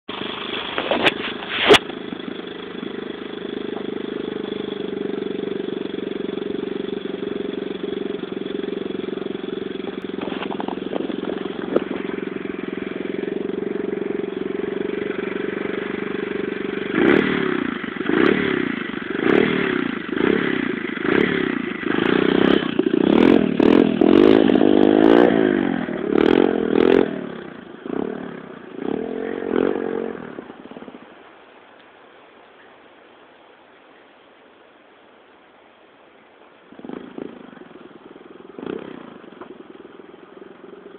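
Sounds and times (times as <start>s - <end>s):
pit bike engine revving: 0.1s - 31.1s, 36.7s - 40.9s.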